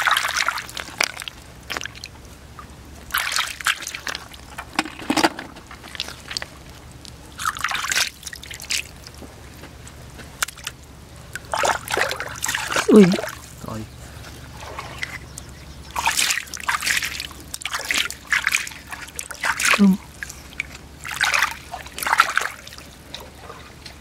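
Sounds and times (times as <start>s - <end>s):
shallow water sloshing: 0.0s - 24.0s
steady low hum: 0.0s - 24.0s.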